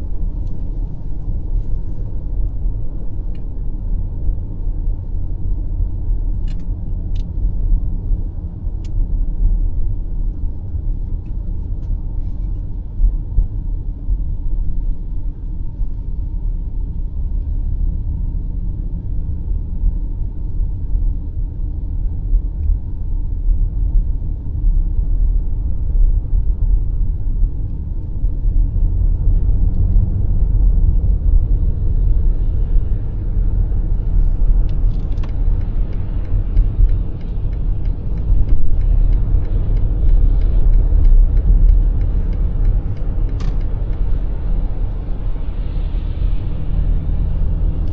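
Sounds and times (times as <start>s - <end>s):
road and engine rumble: 0.0s - 47.9s.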